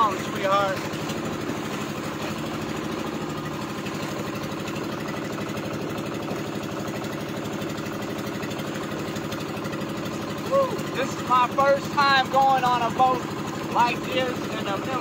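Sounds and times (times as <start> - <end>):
boat engine running steadily: 0.0 - 15.0.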